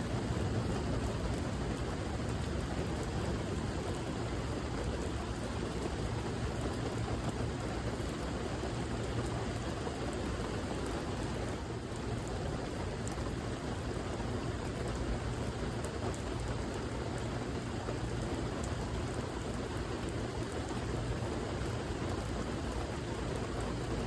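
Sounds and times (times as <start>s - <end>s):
patters of raindrops: 0.0s - 24.0s
rain falling: 0.0s - 24.0s.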